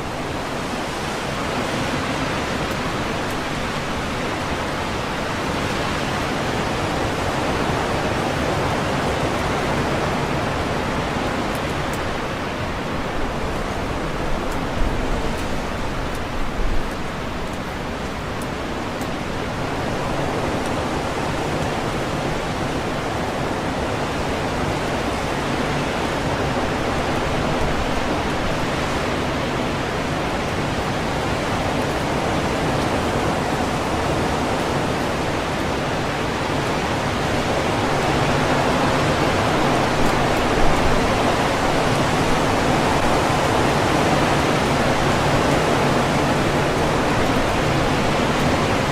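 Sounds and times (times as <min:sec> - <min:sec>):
wind rushing through trees: 0:00.0 - 0:48.9.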